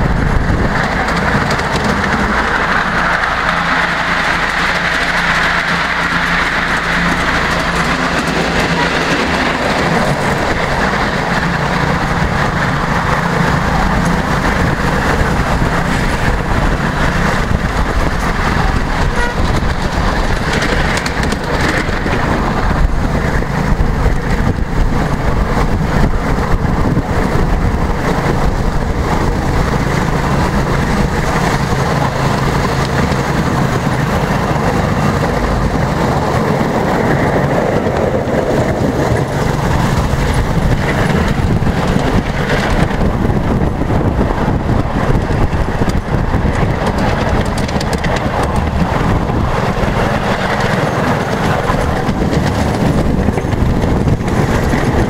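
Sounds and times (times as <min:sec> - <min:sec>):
small train wheels rumbling on rails: 0:00.0 - 0:55.0.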